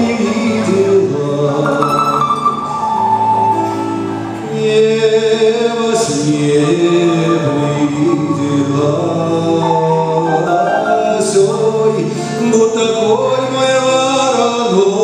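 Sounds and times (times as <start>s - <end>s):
person singing slow folk song: 0.0s - 15.0s.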